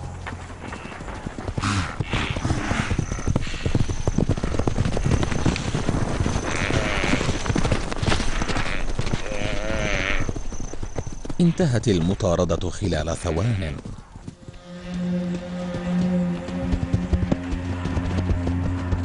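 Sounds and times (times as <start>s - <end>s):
hooves drumming on ground: 0.0s - 19.0s.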